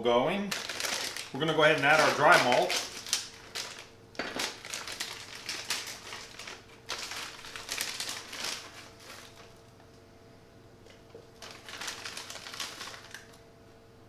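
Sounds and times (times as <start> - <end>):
plastic bag crinkling: 0.5 - 9.8, 11.3 - 13.4.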